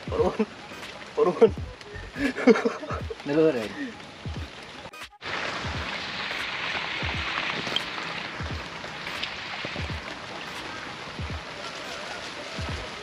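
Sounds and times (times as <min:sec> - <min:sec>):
heavy rain pattering on water: 0:00.0 - 0:13.0.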